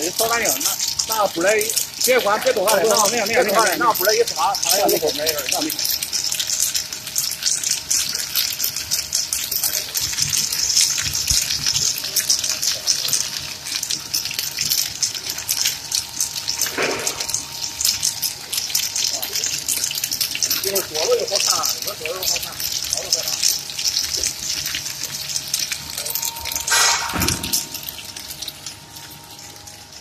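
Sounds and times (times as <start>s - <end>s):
extruder hissing with crackles: 0.0s - 30.0s
faint machine hum: 0.0s - 30.0s.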